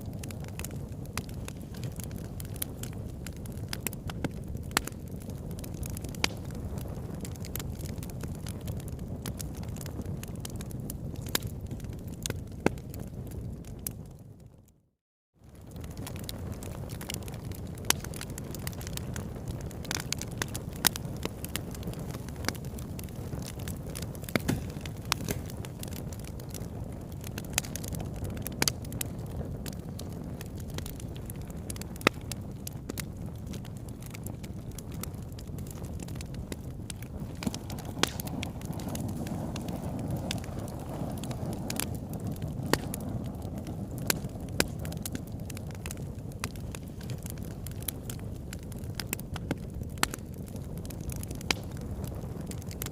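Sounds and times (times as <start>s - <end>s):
campfire flames rushing: 0.0s - 14.5s, 15.4s - 52.9s
burning wood popping and crackling: 0.0s - 14.6s, 15.4s - 52.9s.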